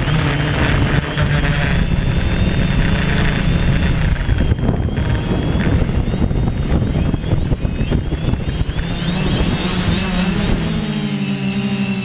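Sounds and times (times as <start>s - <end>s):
drone rotors humming: 0.0s - 12.0s
high electronic whine: 0.0s - 12.0s.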